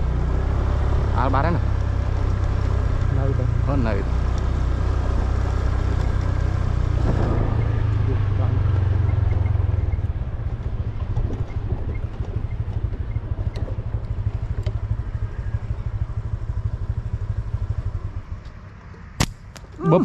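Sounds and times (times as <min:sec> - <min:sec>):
scooter engine rumbling: 0:00.0 - 0:20.0.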